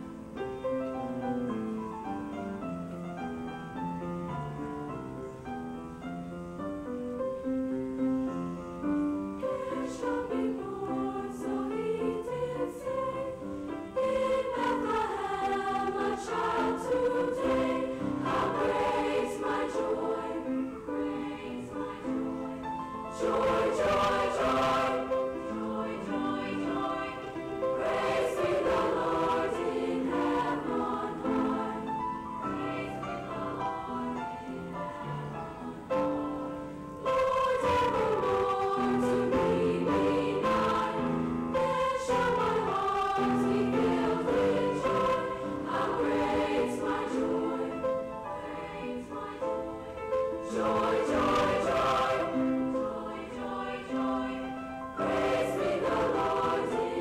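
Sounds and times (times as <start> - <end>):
choir singing in parts: 8.8 - 57.0.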